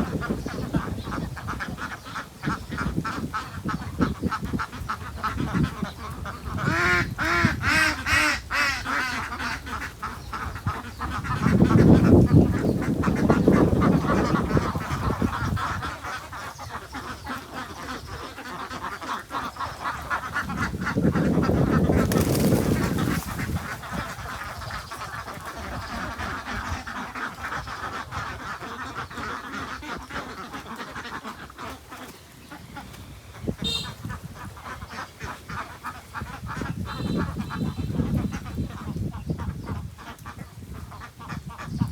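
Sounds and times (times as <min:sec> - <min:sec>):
quacking and honking animal calls: 0:00.0 - 0:41.9.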